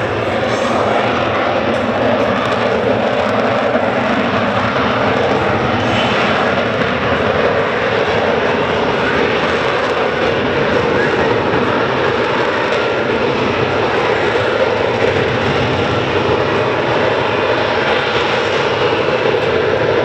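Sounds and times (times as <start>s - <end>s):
jet engine roaring while hovering: 0.0s - 20.0s.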